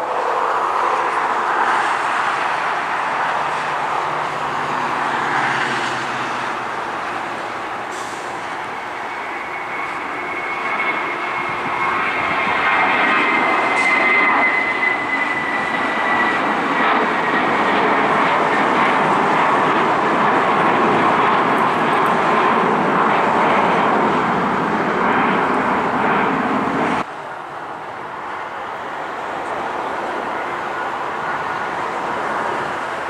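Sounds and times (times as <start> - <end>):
high jet engine whine: 0.0 - 33.0
jet engines roaring: 0.0 - 33.0.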